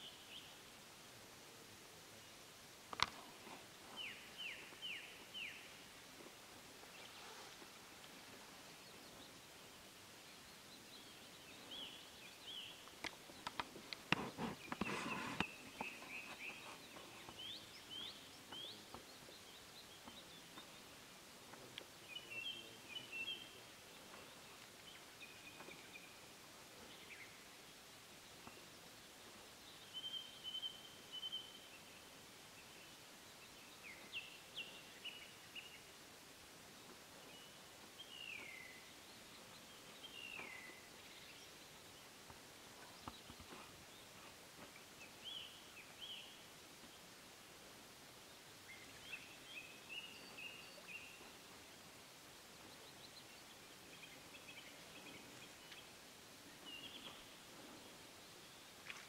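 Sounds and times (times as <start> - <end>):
small birds chirping: 2.0 - 59.0.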